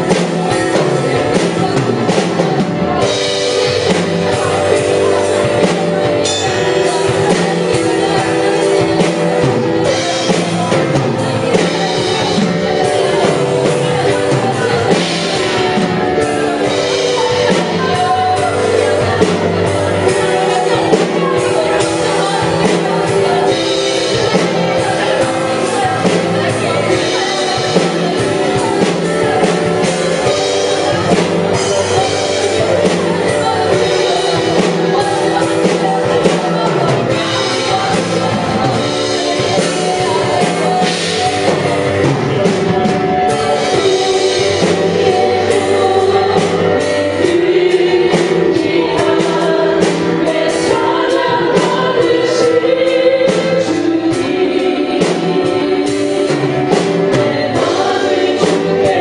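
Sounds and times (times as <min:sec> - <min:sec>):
drums: 0:00.0 - 0:59.0
singers leading congregational song: 0:00.0 - 0:59.0.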